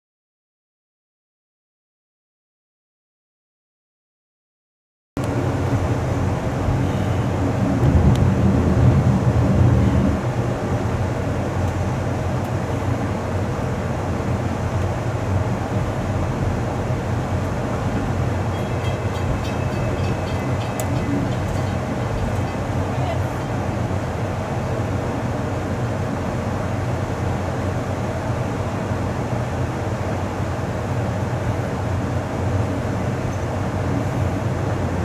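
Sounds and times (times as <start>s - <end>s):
train rumble: 5.2s - 35.0s.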